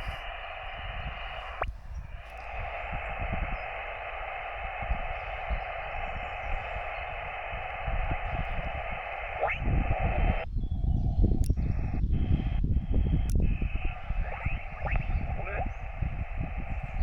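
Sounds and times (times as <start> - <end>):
radio receiver hiss: 0.0 - 17.0
sharp radio clicks: 0.0 - 17.0.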